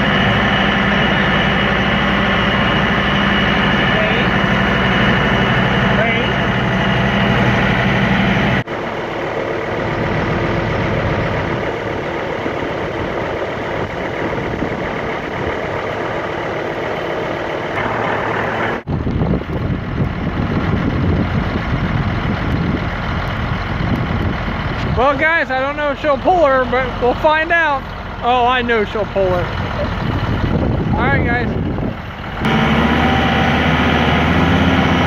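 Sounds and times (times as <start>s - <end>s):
tractor and forage harvester running: 0.0s - 35.0s.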